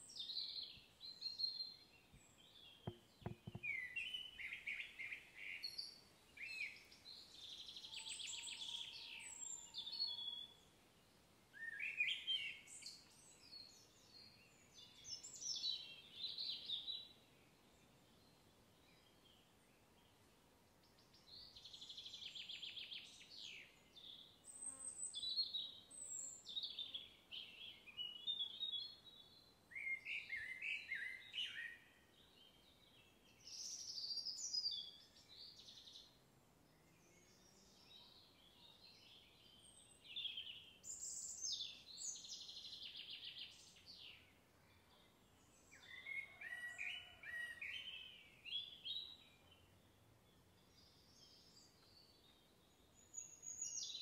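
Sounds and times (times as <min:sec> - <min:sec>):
songbirds singing trills: 0:00.0 - 0:10.7, 0:20.9 - 0:54.0.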